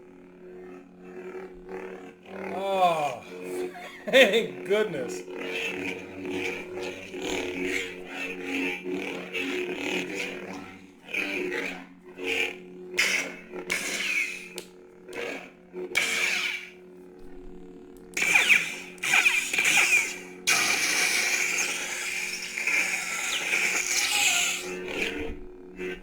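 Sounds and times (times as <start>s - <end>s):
lightsaber hum: 0.0s - 26.0s.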